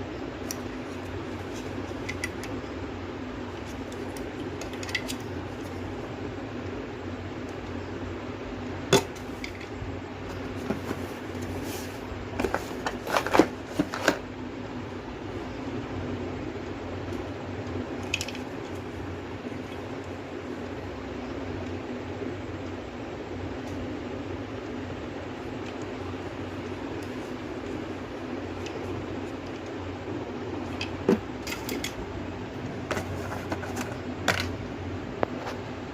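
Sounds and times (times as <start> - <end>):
steady background hum: 0.0 - 35.9.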